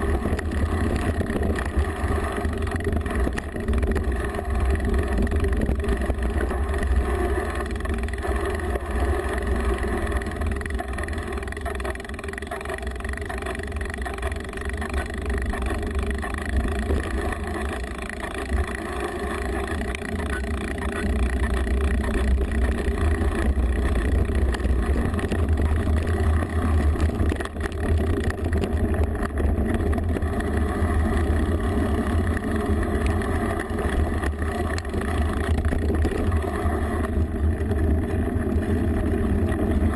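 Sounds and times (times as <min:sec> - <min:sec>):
bike tyres and frame rattling: 0:00.0 - 0:39.9.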